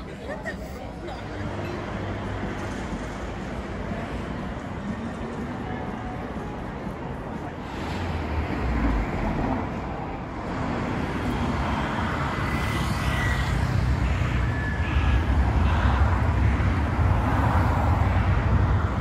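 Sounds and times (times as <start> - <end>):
cars passing with low rumble: 0.0 - 19.0.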